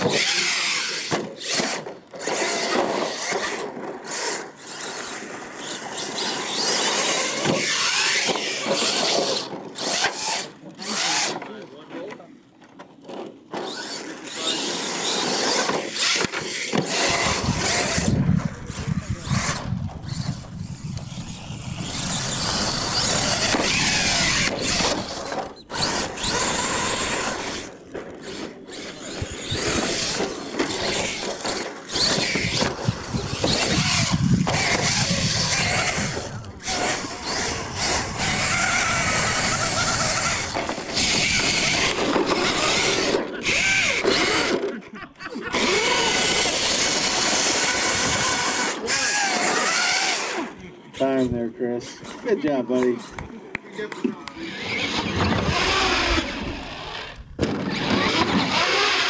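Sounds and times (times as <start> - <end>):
electric toy truck motor whining: 0.0 - 11.6, 13.0 - 53.3, 54.3 - 59.0.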